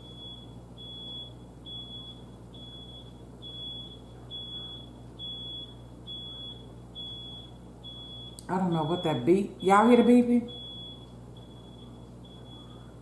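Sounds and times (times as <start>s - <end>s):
electronic alarm beeping: 0.0s - 13.0s.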